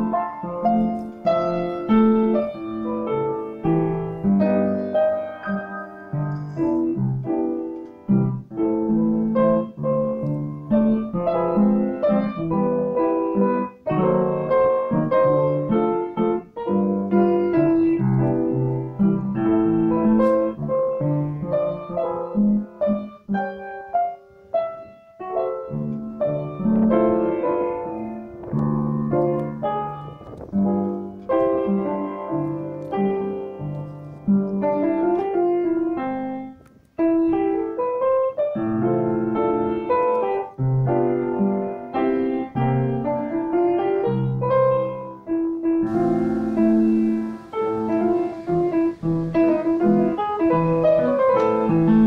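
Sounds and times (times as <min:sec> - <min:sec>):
solo piano music: 0:00.0 - 0:52.0.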